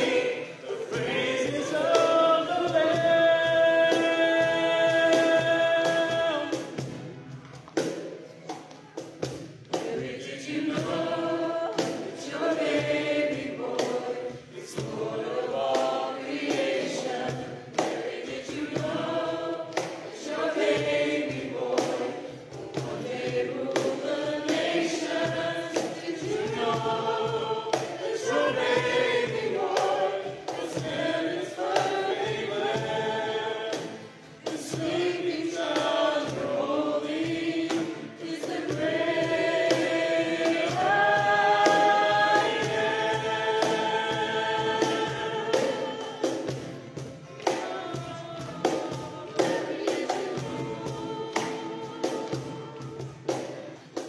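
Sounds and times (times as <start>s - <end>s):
group singing worship song: 0.0s - 54.0s
instrumental accompaniment: 0.0s - 54.0s.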